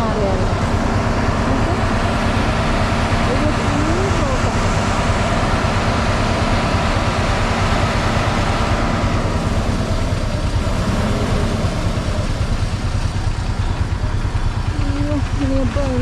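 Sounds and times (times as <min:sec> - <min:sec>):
motorcycle engine rumbling: 0:00.0 - 0:16.0
traffic noise: 0:00.0 - 0:16.0.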